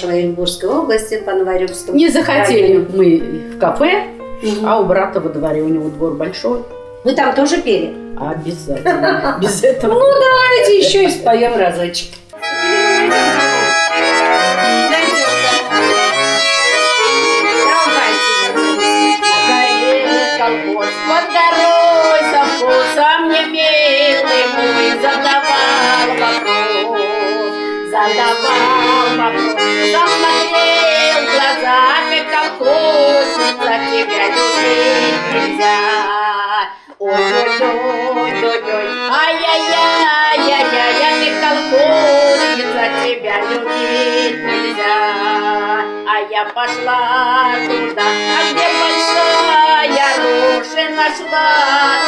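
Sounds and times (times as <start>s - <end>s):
woman singing: 0.0s - 12.1s, 14.5s - 52.0s
accordion playing folk song: 0.0s - 52.0s.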